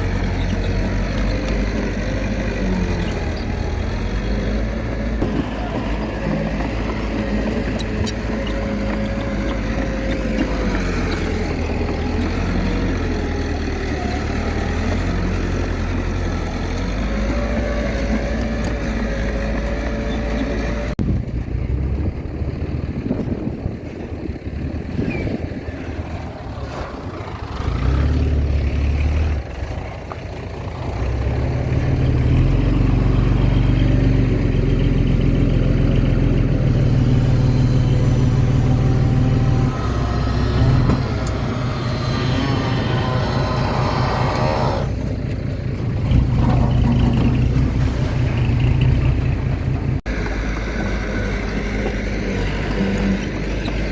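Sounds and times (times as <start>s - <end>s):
diesel engines of earthmoving machinery: 0.0s - 53.9s.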